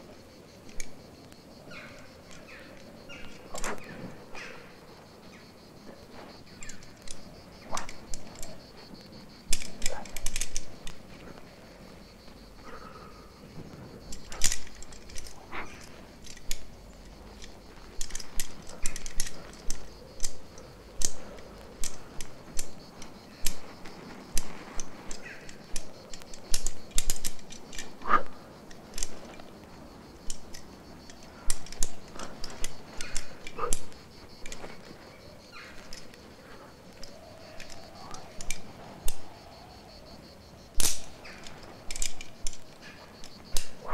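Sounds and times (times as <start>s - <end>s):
carabiners clinking: 1.7s - 4.4s, 6.1s - 39.4s, 40.8s - 43.9s.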